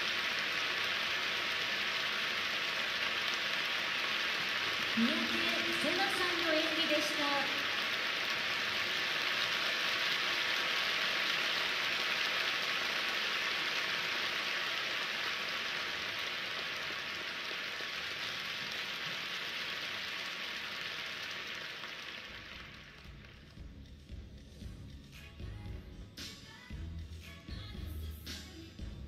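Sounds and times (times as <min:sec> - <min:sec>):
crowd applauding: 0:00.0 - 0:23.6.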